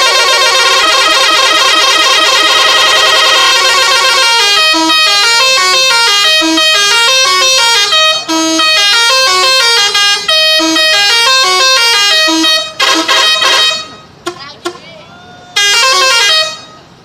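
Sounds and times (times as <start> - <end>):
multi-note air horn tune: 0.0 - 14.4, 15.6 - 16.8.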